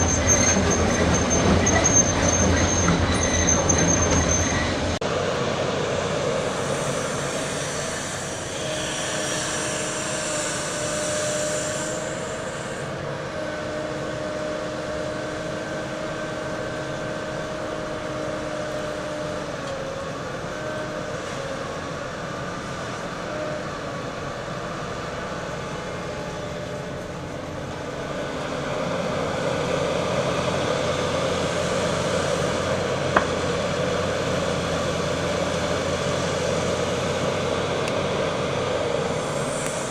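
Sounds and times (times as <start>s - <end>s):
construction machinery running: 0.0s - 39.9s
mechanical whine: 0.0s - 39.9s.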